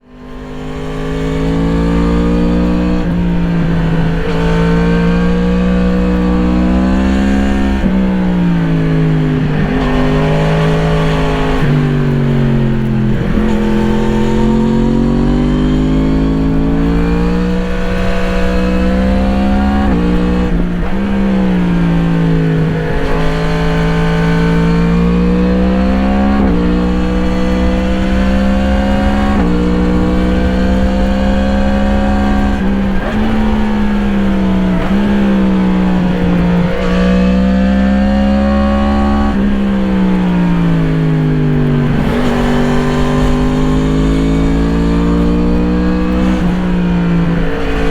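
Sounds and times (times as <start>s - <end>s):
low wind rumble: 0.0s - 47.9s
motorcycle engine revving: 0.0s - 47.9s.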